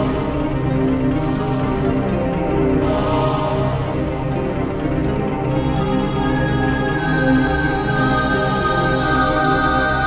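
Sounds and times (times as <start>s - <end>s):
eerie ambient drone music: 0.0s - 10.0s.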